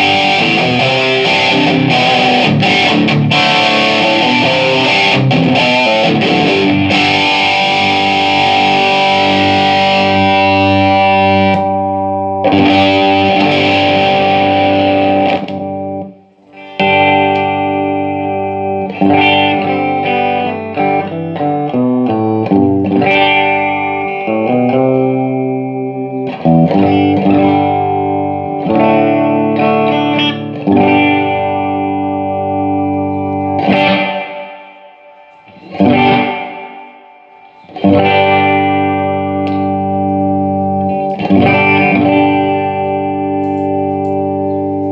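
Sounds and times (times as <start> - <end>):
distorted electric guitar chords: 0.0 - 44.9
picked guitar notes and arpeggios: 0.0 - 44.9.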